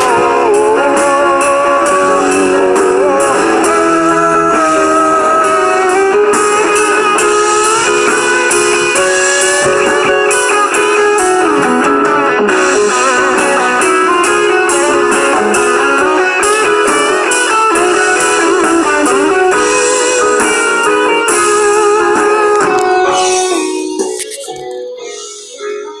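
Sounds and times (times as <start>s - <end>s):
lead electric guitar bending notes: 0.0s - 24.4s
instrumental rock music: 0.0s - 25.6s.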